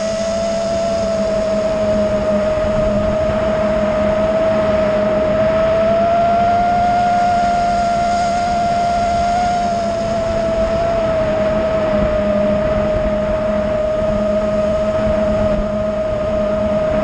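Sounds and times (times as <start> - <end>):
drone motors whining: 0.0 - 17.0
wind rush: 0.0 - 17.0.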